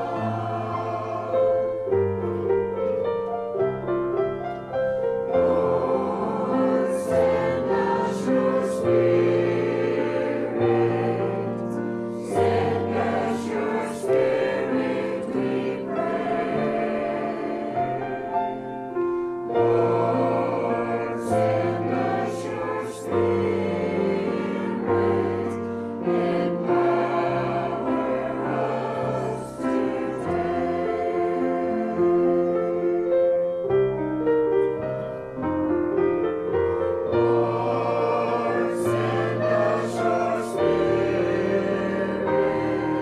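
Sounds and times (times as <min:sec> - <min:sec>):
choir singing a hymn: 0:00.0 - 0:33.8, 0:35.6 - 0:43.0.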